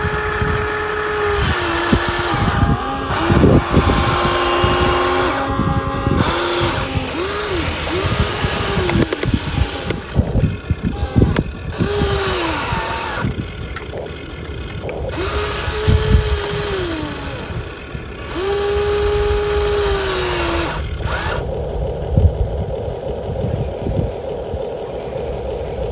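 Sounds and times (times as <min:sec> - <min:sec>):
small electric motors whining: 0:00.0 - 0:24.7
low steady hum: 0:00.0 - 0:25.9.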